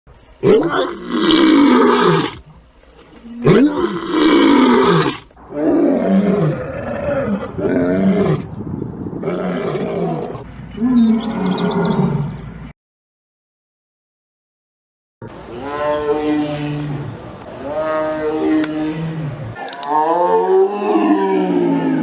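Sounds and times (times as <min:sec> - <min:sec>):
big cat roaring: 0:00.4 - 0:02.4, 0:03.2 - 0:12.4, 0:15.3 - 0:22.0.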